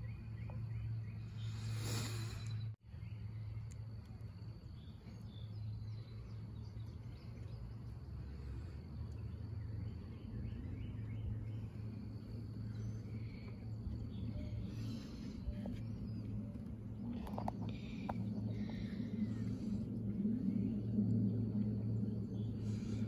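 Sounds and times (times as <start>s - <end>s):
faint bird chirps: 0.0s - 23.0s
steady low hum: 0.0s - 23.0s.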